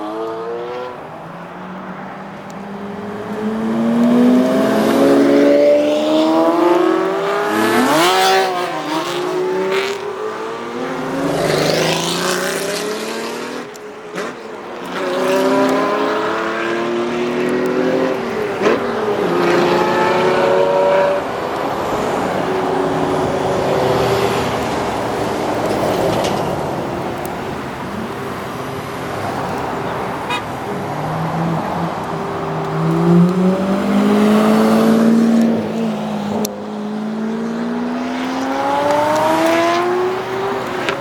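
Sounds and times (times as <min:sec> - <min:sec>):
supercar engines revving: 0:00.0 - 0:41.0.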